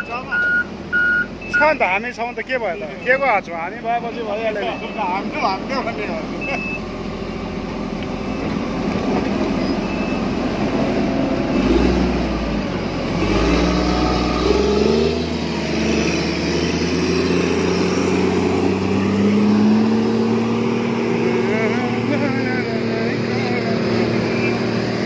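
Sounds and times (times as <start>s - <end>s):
diesel engine running hard: 0.0s - 25.0s.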